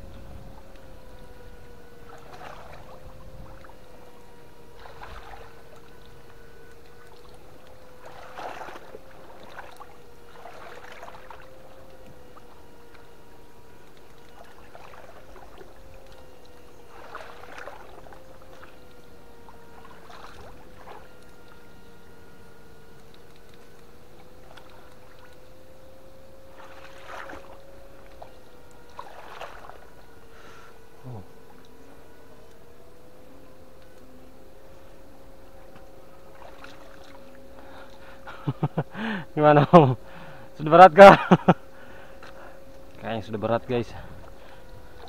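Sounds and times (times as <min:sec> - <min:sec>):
steady wavering hum: 0:00.0 - 0:45.0
water splashing: 0:00.0 - 0:45.0.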